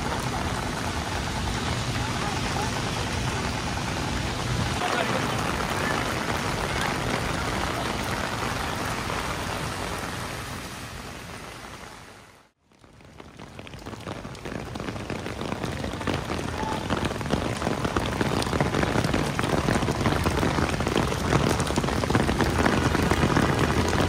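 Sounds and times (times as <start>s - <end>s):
heavy rain on an umbrella: 0.0s - 24.0s.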